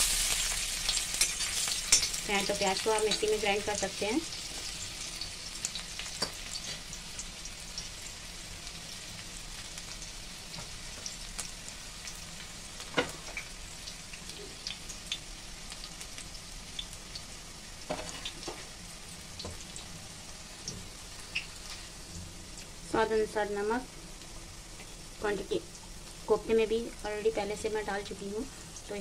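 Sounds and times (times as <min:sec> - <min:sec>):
onion sizzling in oil: 0:00.0 - 0:29.0.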